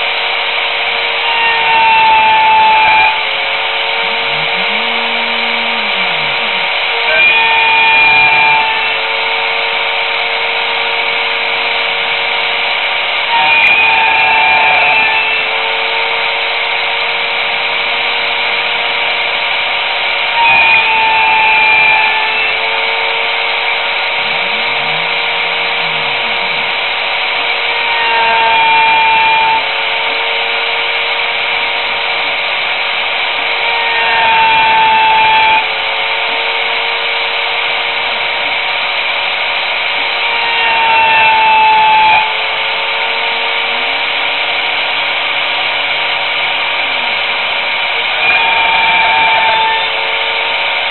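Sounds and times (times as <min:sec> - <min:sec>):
cnc router motor whine: 0:00.0 - 0:50.9.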